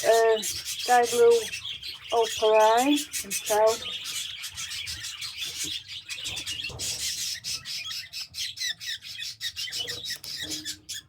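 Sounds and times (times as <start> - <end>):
baby budgies squawking and chirping: 0.0 - 11.0.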